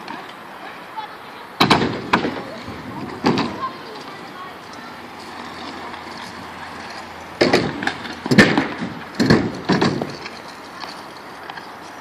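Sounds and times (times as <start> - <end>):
kick scooter clattering on concrete: 1.6 - 12.0.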